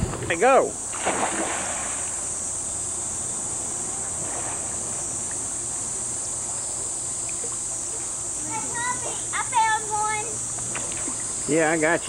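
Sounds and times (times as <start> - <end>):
constant high hiss: 0.0 - 12.0.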